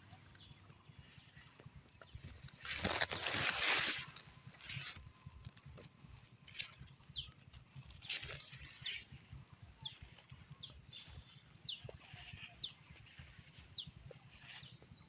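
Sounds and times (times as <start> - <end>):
rustling or wind noise: 0.0 - 15.0.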